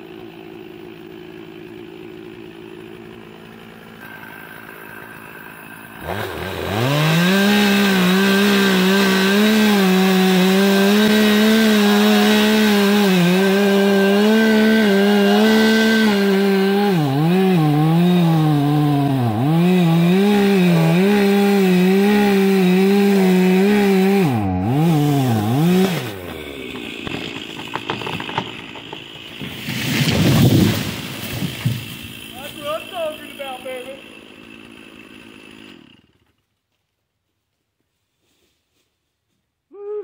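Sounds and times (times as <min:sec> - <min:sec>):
chainsaw cutting wood: 0:00.0 - 0:36.6.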